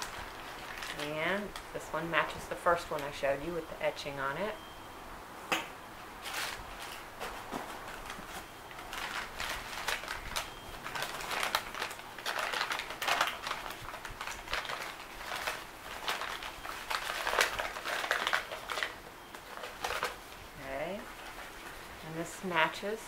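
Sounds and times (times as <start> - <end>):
newspaper crinkling and rustling: 0.0 - 3.2, 6.2 - 23.0.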